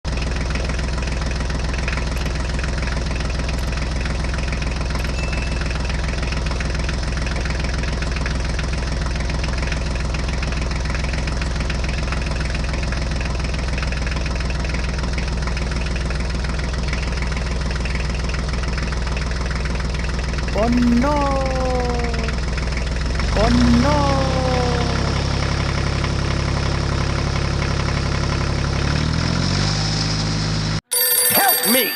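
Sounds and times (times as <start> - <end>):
engine idling: 0.1 - 29.9.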